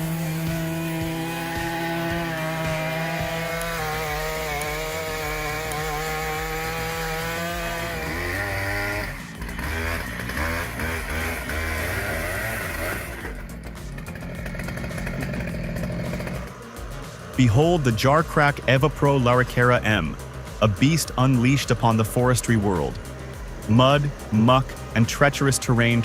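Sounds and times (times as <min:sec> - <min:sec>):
chainsaw cutting at full throttle: 0:00.0 - 0:26.0
low engine rumble: 0:00.0 - 0:26.0.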